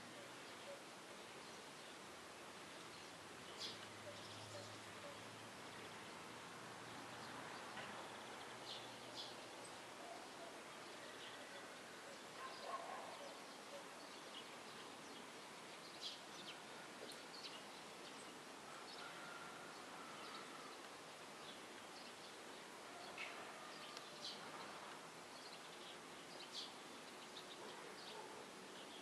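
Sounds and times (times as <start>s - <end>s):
faint outdoor hiss: 0.0s - 29.0s.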